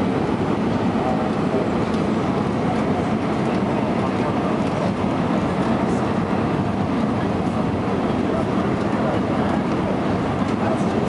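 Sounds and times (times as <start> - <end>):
airliner cabin engine roar: 0.0 - 11.0.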